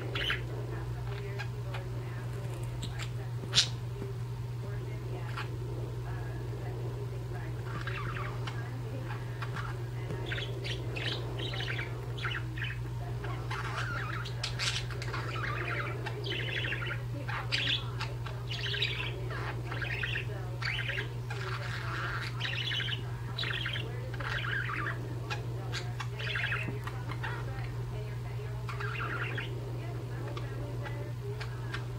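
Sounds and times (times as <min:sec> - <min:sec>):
budgerigars chirping: 0:00.0 - 0:04.0, 0:04.7 - 0:31.9
steady low hum: 0:00.0 - 0:31.9.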